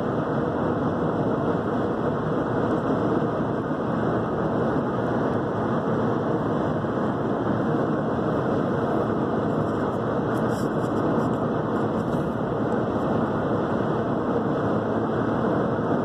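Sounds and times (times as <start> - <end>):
road and tyre noise in car: 0.0 - 16.0.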